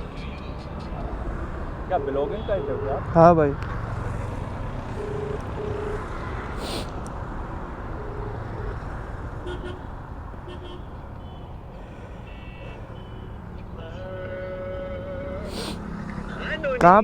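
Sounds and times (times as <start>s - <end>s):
vehicle horn toots: 0.0s - 7.0s, 7.6s - 11.6s, 12.3s - 16.6s
road traffic rumble: 0.0s - 17.0s.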